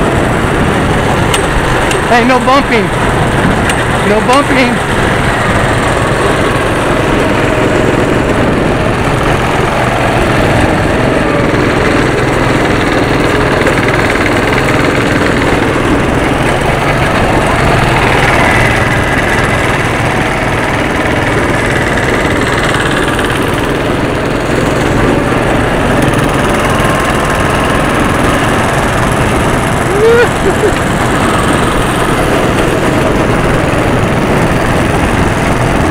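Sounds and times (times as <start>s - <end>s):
go-kart engines running: 0.0s - 35.9s.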